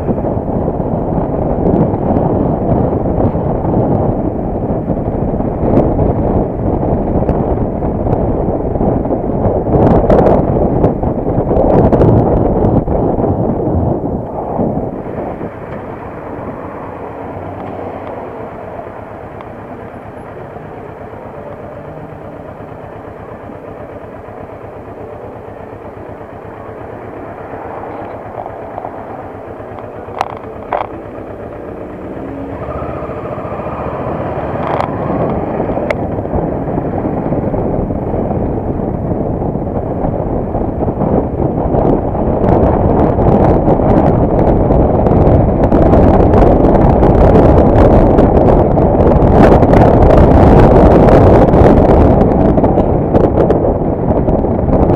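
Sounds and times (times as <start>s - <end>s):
motorcycle engine running: 0.0s - 54.9s
wind on microphone: 0.0s - 54.9s.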